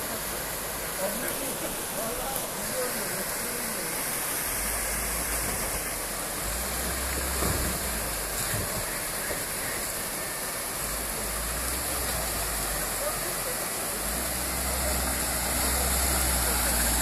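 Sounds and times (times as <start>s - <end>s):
river rushing over rapids: 0.0s - 17.0s
vehicle engine rumble: 0.0s - 17.0s.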